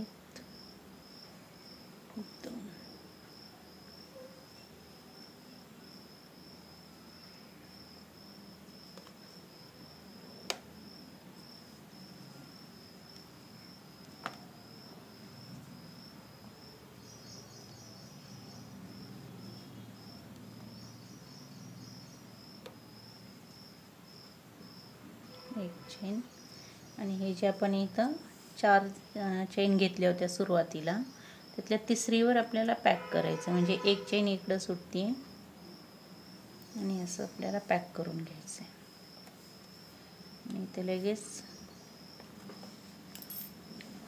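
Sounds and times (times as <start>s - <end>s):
cricket chirping: 0.0s - 44.0s.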